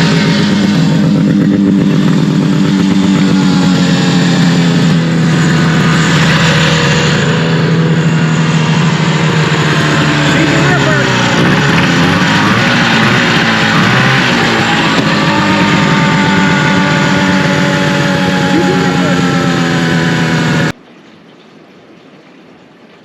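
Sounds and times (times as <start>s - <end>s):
snowmobile engine running: 0.0s - 20.8s.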